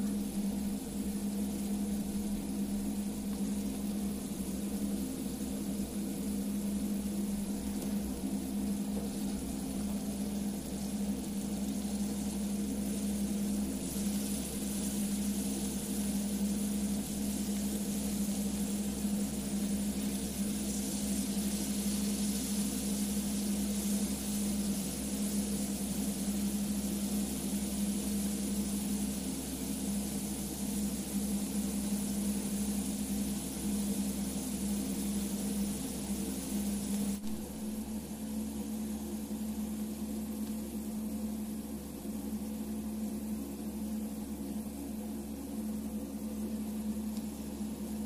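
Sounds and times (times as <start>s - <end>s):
hiss: 0.0s - 48.0s
motor hum: 0.0s - 48.0s.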